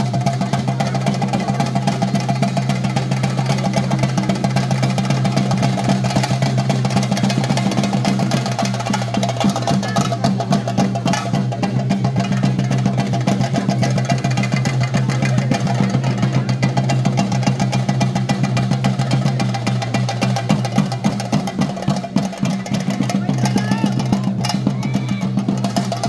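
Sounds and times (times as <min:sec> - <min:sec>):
drums beating fast: 0:00.0 - 0:26.0.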